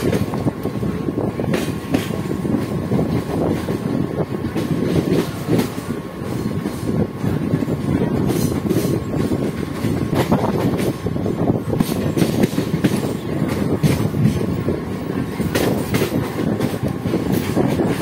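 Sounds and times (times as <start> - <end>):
train rumbling on rails: 0.0 - 18.0
wheels clicking over rail joints: 0.0 - 18.0.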